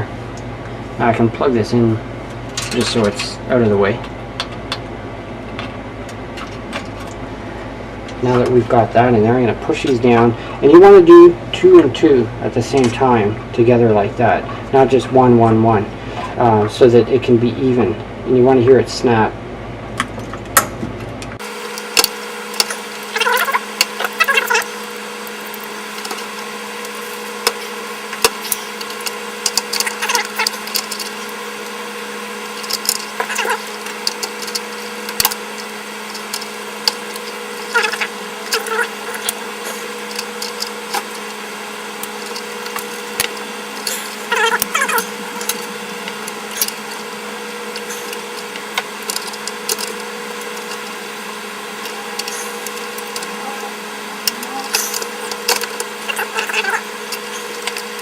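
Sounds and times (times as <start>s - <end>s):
steady hum with tones: 0.0s - 58.0s.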